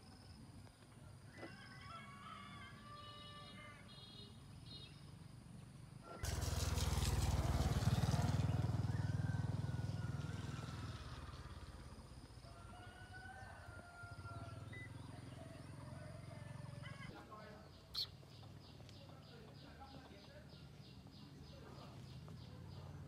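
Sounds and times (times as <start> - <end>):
faint birds chirping: 0.0 - 6.2, 10.3 - 23.0.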